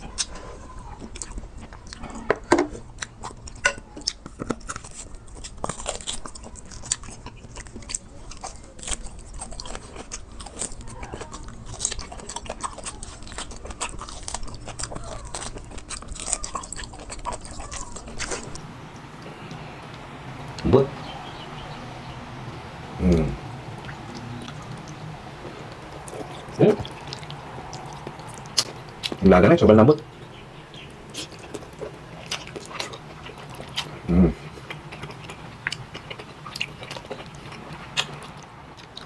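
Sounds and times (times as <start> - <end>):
person chewing and biting: 2.8 - 20.6, 23.2 - 29.2, 30.1 - 39.0.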